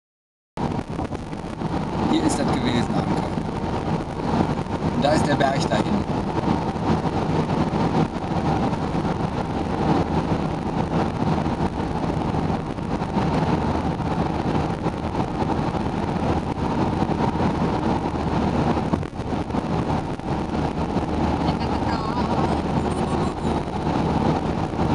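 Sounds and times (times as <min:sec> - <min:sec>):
car cabin road noise: 0:00.6 - 0:24.9.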